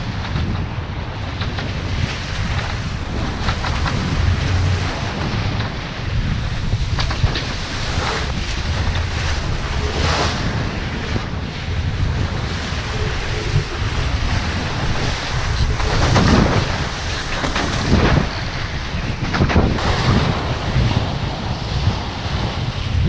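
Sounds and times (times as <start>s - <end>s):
sea water rushing past hulls: 0.0s - 23.0s
waves surging: 0.0s - 23.0s
wind on microphone: 0.0s - 23.0s.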